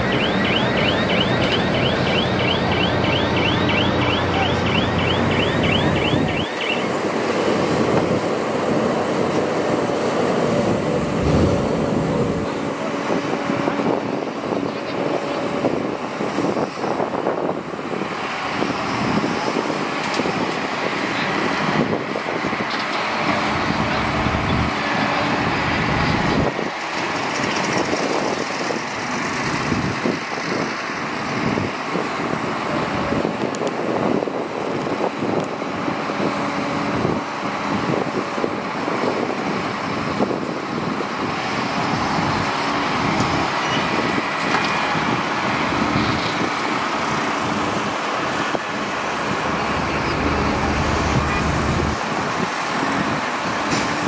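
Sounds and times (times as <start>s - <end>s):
diesel machines running: 0.0s - 54.0s.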